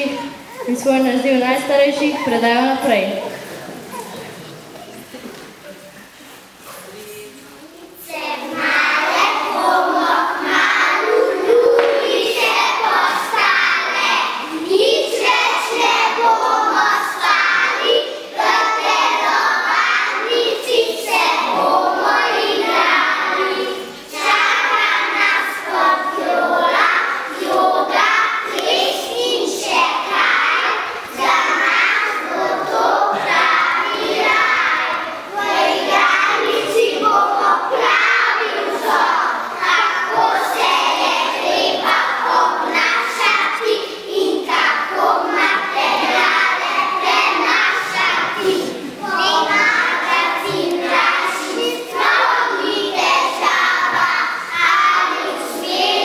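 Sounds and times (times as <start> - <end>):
children singing: 8.0 - 56.0.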